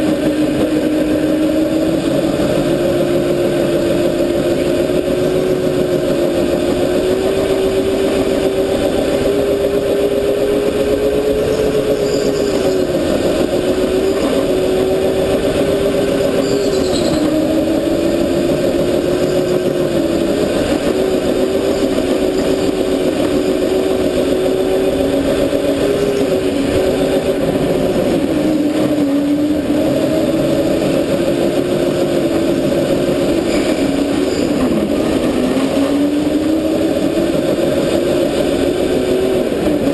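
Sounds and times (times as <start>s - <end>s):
go-kart motor droning: 0.0s - 39.9s.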